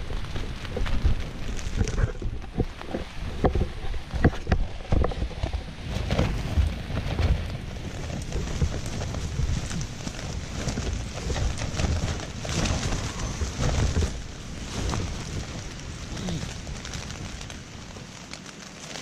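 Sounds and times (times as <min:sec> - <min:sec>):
rain pattering on tent: 0:00.0 - 0:19.0
wind gusting against tent fabric: 0:00.0 - 0:19.0.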